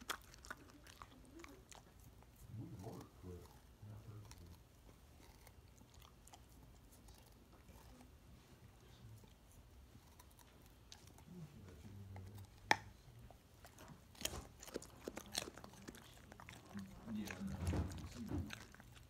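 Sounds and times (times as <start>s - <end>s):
dog crunching a raw carrot: 0.0s - 19.0s.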